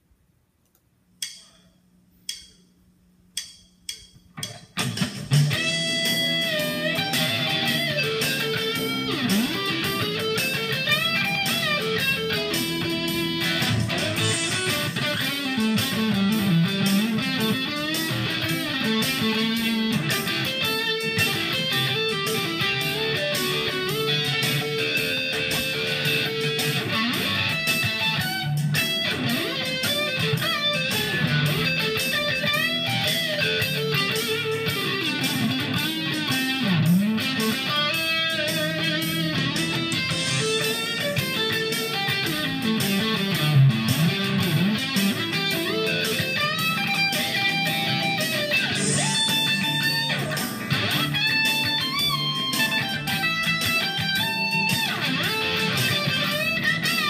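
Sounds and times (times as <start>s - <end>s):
electric guitar playing: 4.4s - 57.0s.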